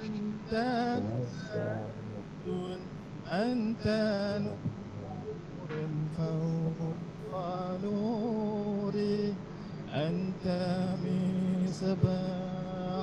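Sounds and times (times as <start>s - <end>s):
man singing a devotional hymn: 0.0s - 4.7s, 5.8s - 13.0s.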